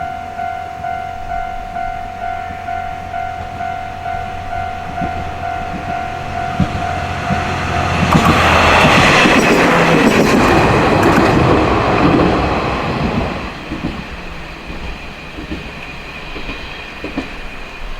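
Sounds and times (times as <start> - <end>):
railway crossing bell ringing: 0.0 - 15.3
train wheels clacking over rail joints: 3.3 - 17.9.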